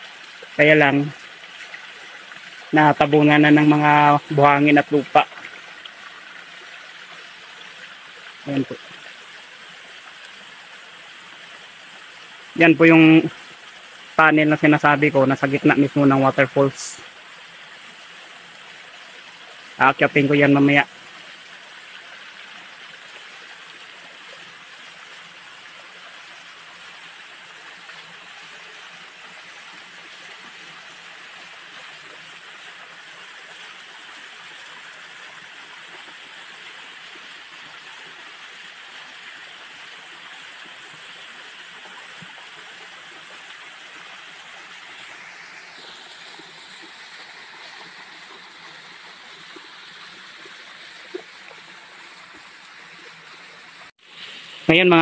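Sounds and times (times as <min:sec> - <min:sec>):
waterfall pouring over rocks: 0:00.0 - 0:55.0.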